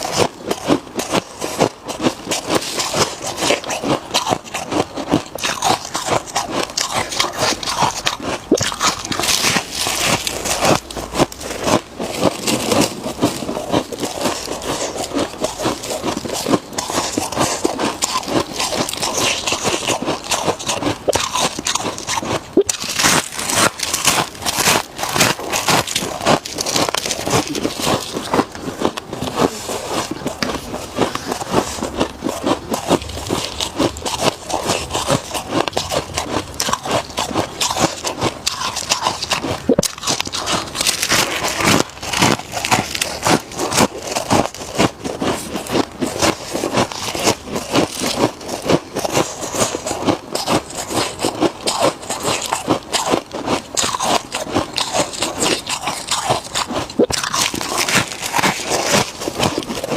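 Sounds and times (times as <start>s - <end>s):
frost being chewed crunching: 0.0s - 59.9s.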